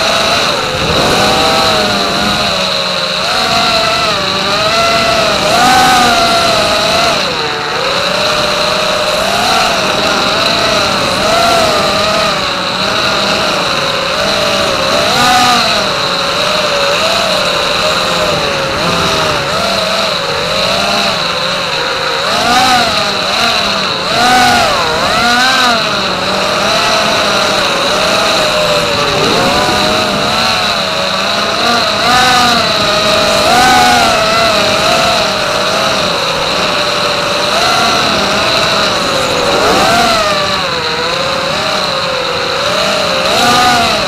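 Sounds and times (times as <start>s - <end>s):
constant high-pitched tone: 0.0s - 44.0s
quadcopter motors buzzing whine: 0.0s - 44.0s.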